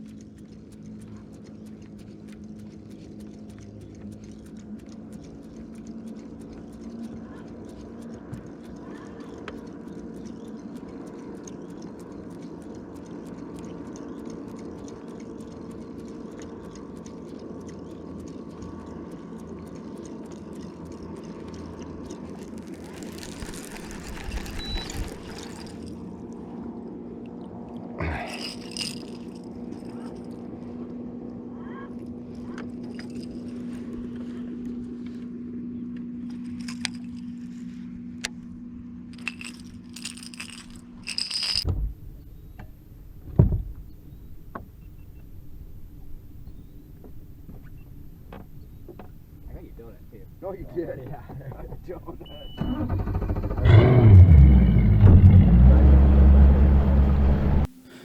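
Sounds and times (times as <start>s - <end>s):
water sounds: 0.0s - 58.0s.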